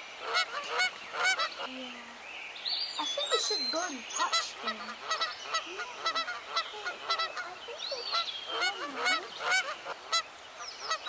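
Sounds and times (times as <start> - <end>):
waterbirds calling: 0.0 - 11.0.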